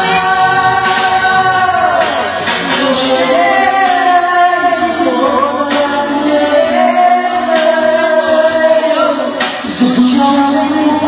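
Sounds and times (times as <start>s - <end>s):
backing track music: 0.0s - 11.0s
man singing into microphone: 0.0s - 11.0s.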